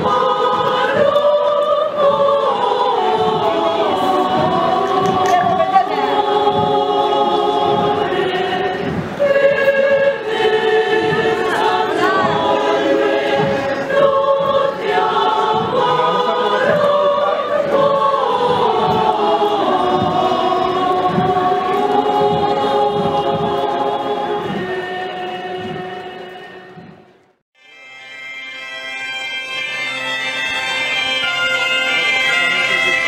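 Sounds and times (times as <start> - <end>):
women's choir singing: 0.0 - 27.2.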